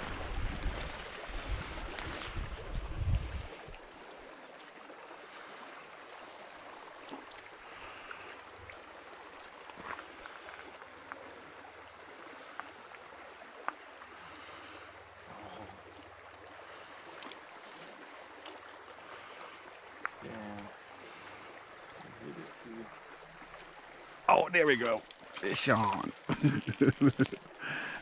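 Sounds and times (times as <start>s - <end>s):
creek water flowing: 0.0s - 28.0s.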